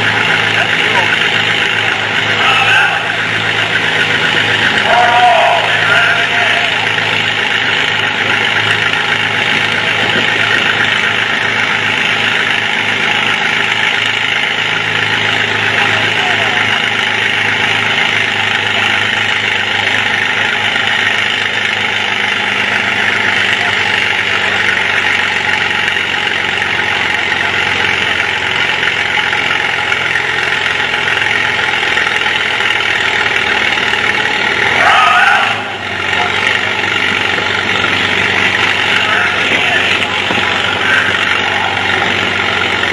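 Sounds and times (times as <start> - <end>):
tractor engine under heavy load: 0.0 - 42.9.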